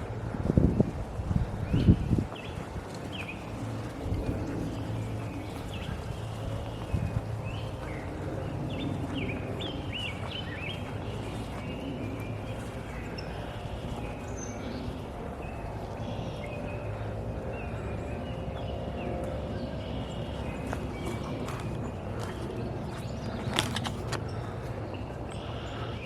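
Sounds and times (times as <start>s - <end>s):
birds chirping: 0.0s - 26.0s
footsteps on a trail: 0.0s - 26.0s.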